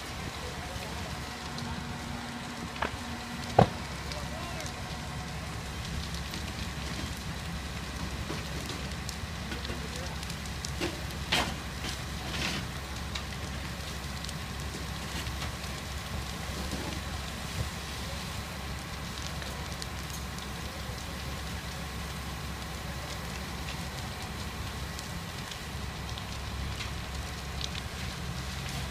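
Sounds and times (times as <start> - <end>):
fire crackling and popping: 0.0 - 28.9
loud fire cracks: 0.0 - 28.9
low fire rumble: 0.0 - 28.9.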